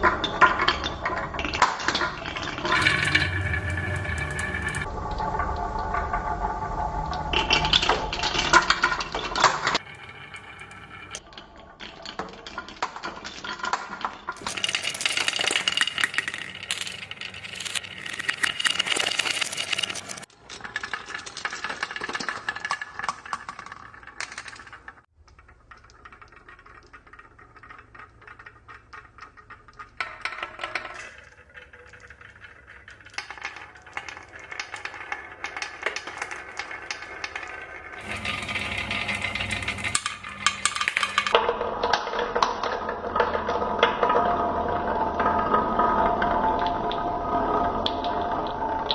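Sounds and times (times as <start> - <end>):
marbles rattling down tracks: 0.0 - 5.0, 7.3 - 11.2, 12.2 - 48.9.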